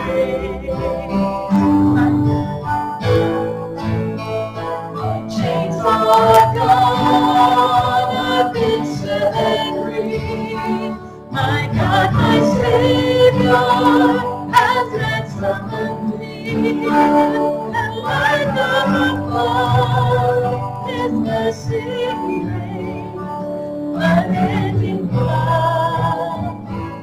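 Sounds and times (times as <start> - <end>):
woman singing a hymn: 0.0 - 2.5, 5.0 - 26.7
guitar: 0.0 - 27.0.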